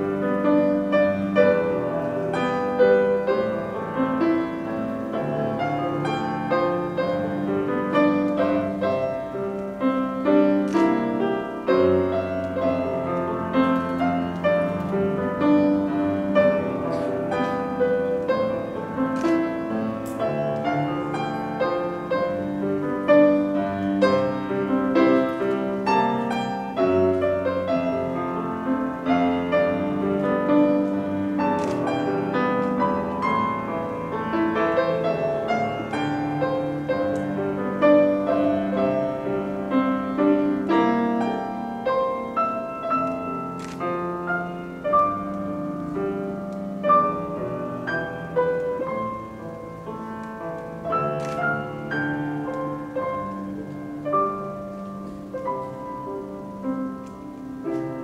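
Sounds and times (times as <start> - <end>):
solo grand piano: 0.0 - 58.0.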